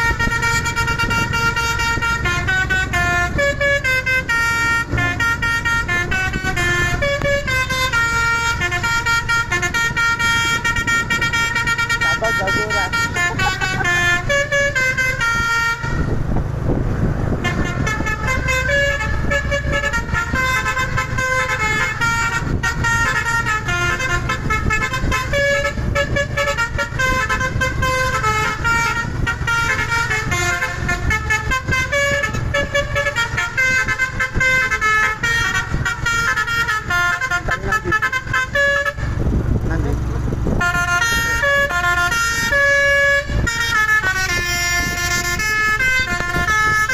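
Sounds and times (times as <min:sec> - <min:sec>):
multi-tone truck horn tune: 0:00.0 - 0:46.9
truck engine rumble: 0:00.0 - 0:46.9.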